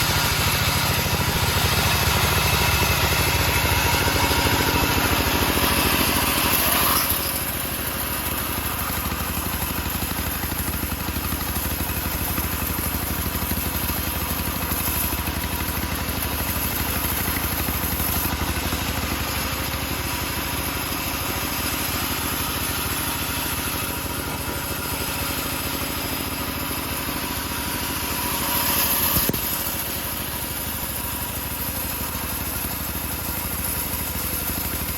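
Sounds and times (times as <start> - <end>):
bandsaw sawmill cutting logs: 0.0 - 34.9.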